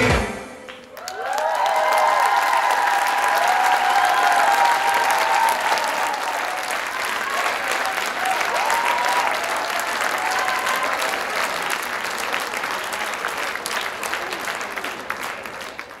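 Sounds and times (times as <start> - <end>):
audience applauding: 0.7 - 16.0.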